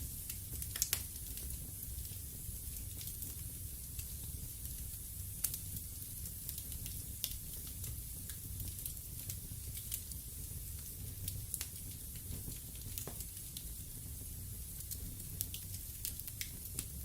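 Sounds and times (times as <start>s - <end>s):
fire rumble and hiss: 0.0s - 17.0s
wood fire crackling and popping: 0.0s - 17.0s.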